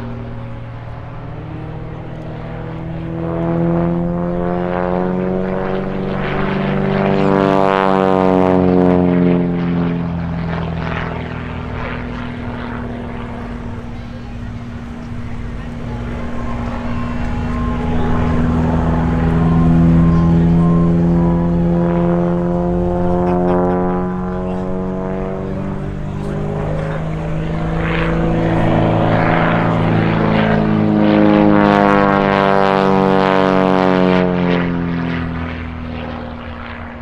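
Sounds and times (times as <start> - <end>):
propeller plane engine running hard: 0.0 - 37.0.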